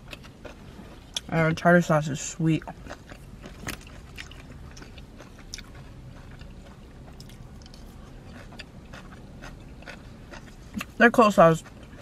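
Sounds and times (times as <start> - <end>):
person chewing food: 0.0 - 1.4, 2.2 - 12.0
low steady hum: 0.0 - 12.0.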